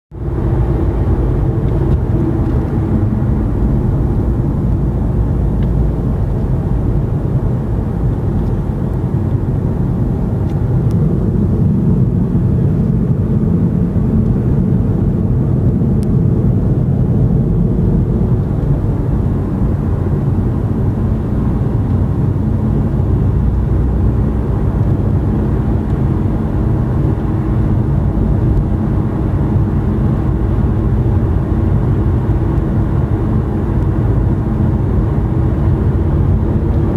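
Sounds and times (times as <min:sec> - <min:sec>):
car road noise rumble: 0:00.1 - 0:36.9.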